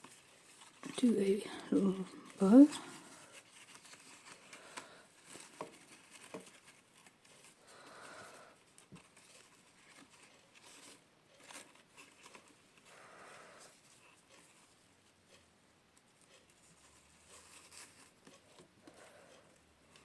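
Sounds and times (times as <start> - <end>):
ribbon and cardstock rustling: 0.0 - 15.4, 16.0 - 20.0.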